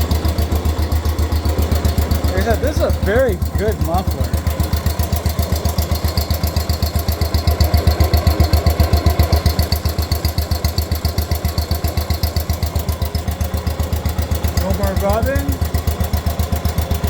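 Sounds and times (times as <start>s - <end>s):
small tractor engine puttering: 0.0s - 17.0s.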